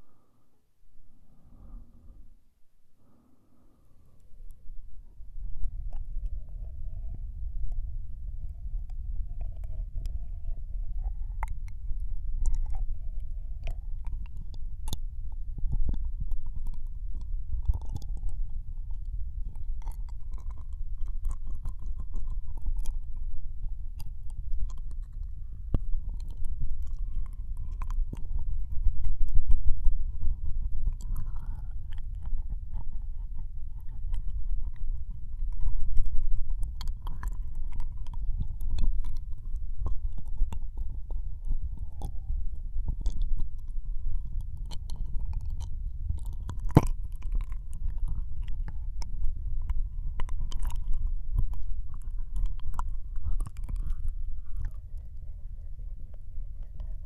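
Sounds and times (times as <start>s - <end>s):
deep microphone rumble: 3.6s - 57.0s
wet mouth clicks and smacks: 5.5s - 10.2s, 10.9s - 57.0s.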